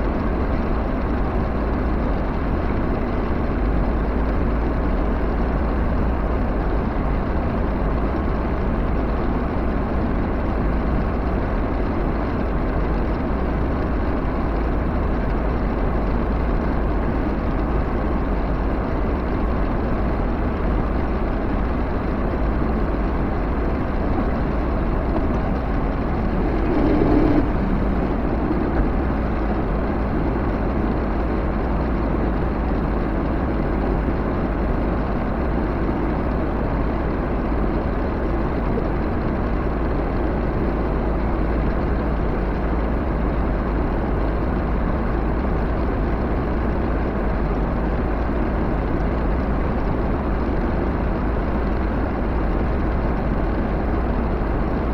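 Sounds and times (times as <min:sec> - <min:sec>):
vehicle engine rumbling: 0:00.0 - 0:54.9.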